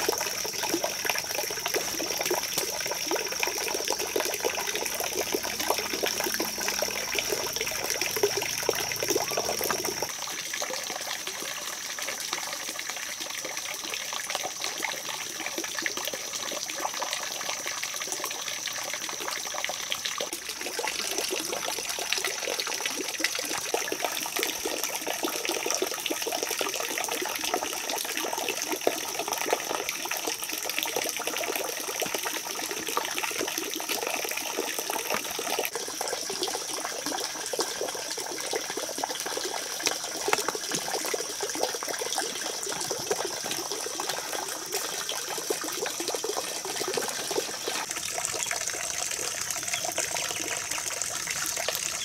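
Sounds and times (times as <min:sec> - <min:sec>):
running water trickling: 0:00.0 - 0:52.0.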